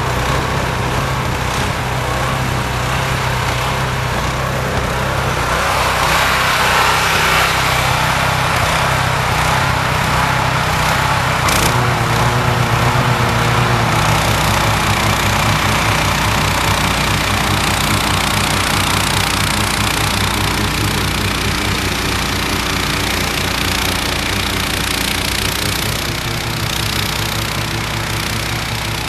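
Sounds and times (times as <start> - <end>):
snowblower engine running: 0.0 - 29.0.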